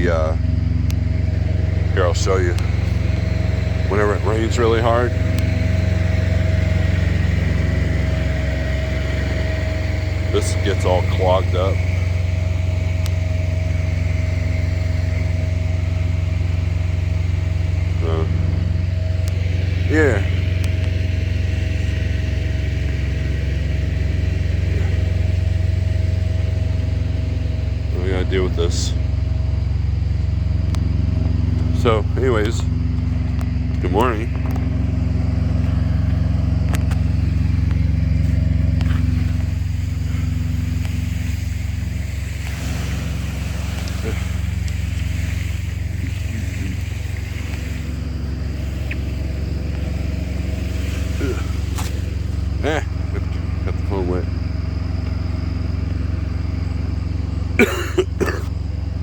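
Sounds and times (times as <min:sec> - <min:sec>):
auxiliary power unit humming: 0:00.0 - 0:59.0
small diesel engine idling: 0:00.0 - 0:59.0.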